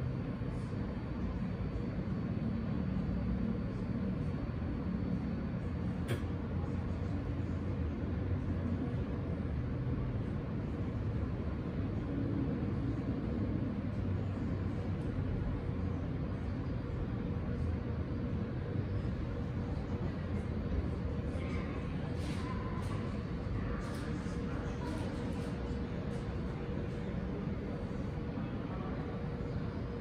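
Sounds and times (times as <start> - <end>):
faint steady hum: 0.0 - 30.0
low rumble of subway station: 0.0 - 30.0.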